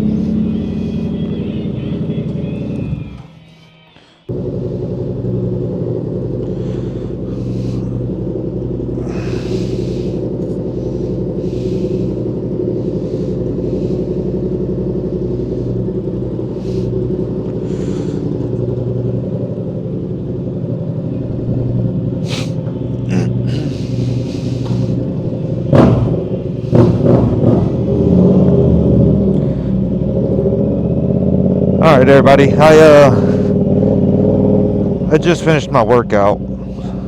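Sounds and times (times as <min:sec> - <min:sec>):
motorcycle engine running: 0:00.0 - 0:03.5, 0:04.3 - 0:37.0.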